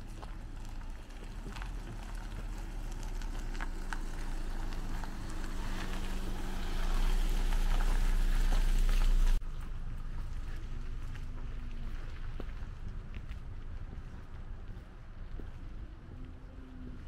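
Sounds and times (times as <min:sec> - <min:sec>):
footsteps crunching on gravel: 0:00.0 - 0:15.9
car engine hum: 0:00.0 - 0:17.0
tyres on wet gravel: 0:00.0 - 0:17.0.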